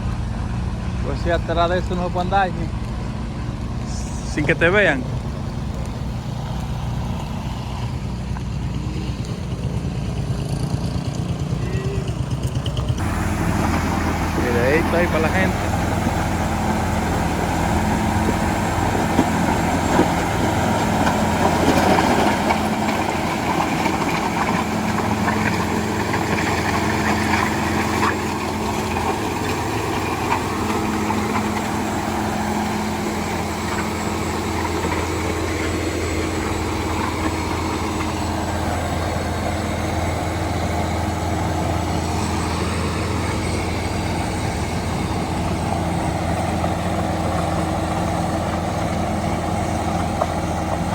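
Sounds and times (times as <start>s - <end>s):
heavy machine engine running: 0.0s - 50.9s.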